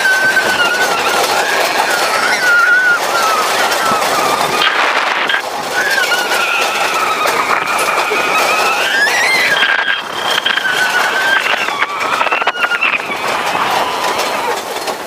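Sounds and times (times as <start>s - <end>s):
high wavering squeal: 0.0s - 14.6s
wind rushing across microphone: 0.0s - 15.0s.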